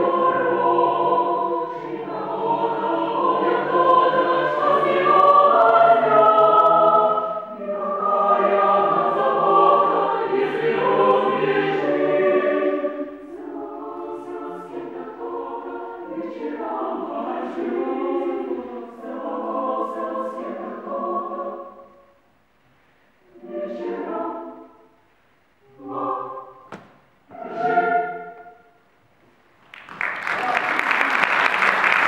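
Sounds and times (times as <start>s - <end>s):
women's choir singing a cappella: 0.0s - 22.2s, 23.3s - 25.0s, 25.6s - 28.8s.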